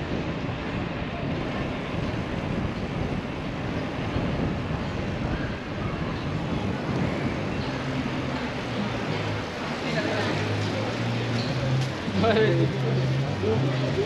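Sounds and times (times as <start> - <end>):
street traffic noise: 0.0 - 14.0
wind buffeting microphone: 0.0 - 14.0.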